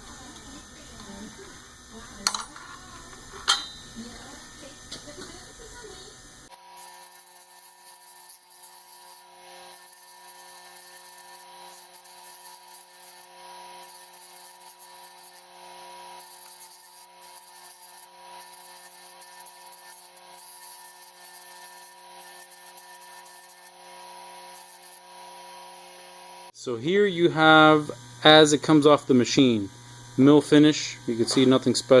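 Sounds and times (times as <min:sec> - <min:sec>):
workshop machine whine: 0:00.0 - 0:32.0.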